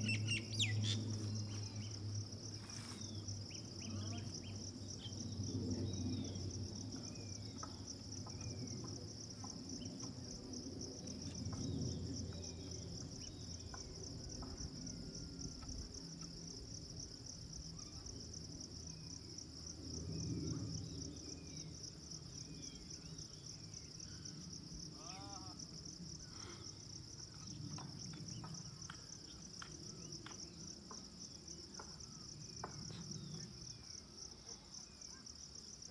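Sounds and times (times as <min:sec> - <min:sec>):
high-pitched insect trill: 0:00.0 - 0:35.9.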